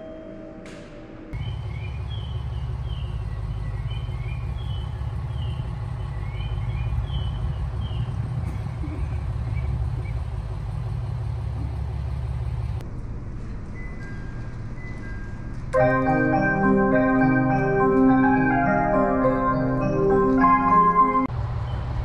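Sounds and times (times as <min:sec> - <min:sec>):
train rumbling: 0:01.4 - 0:22.0.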